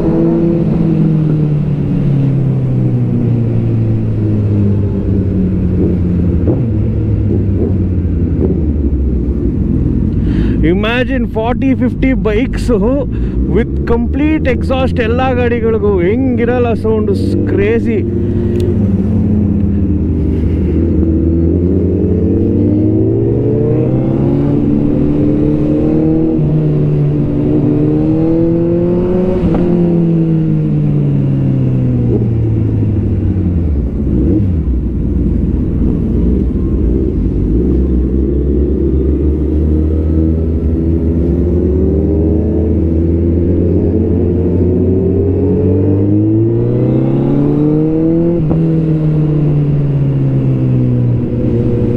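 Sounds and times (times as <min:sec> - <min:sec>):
motorcycle engine revving: 0:00.0 - 0:51.9
motorcycle engines running loud: 0:00.0 - 0:51.9.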